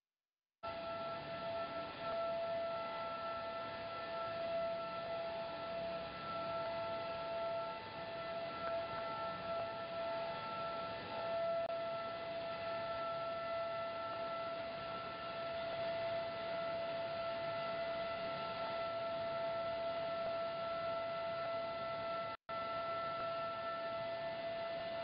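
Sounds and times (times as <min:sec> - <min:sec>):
production line machine whine: 0:00.6 - 0:25.0.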